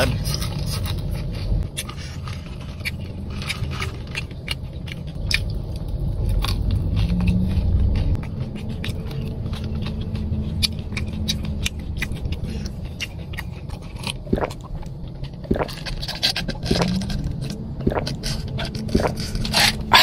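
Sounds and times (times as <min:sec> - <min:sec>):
crunchy chewing: 0:00.0 - 0:20.0
low rumble: 0:00.0 - 0:20.0.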